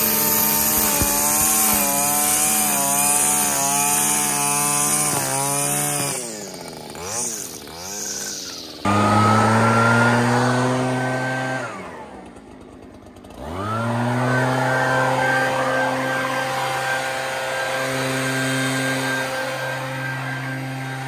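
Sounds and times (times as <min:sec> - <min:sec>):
leaf blower running: 0:00.0 - 0:21.0.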